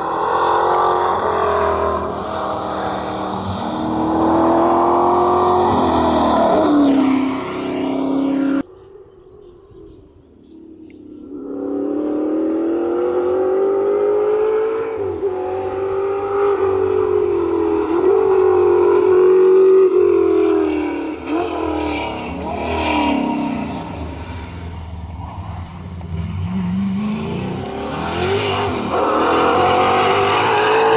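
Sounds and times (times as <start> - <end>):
rally car engine passing by: 0.0 - 8.6, 11.4 - 30.9.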